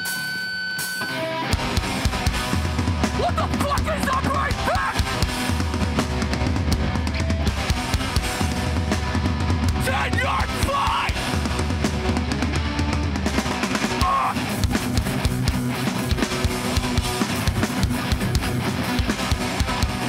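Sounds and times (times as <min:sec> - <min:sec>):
bass guitar: 0:00.0 - 0:20.0
distorted electric guitars: 0:00.0 - 0:20.0
heavy drum kit playing: 0:01.1 - 0:20.0.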